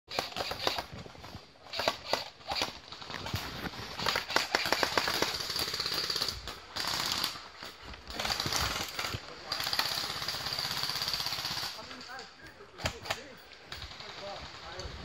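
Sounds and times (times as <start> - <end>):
airsoft guns firing in bursts: 0.1 - 12.1, 12.8 - 15.0.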